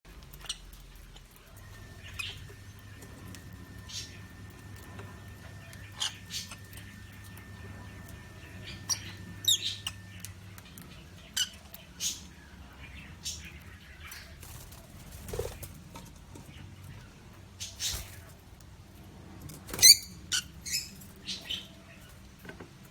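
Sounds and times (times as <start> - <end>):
low steady hum: 0.1 - 22.4
small birds chirping: 0.2 - 18.4, 19.8 - 22.4.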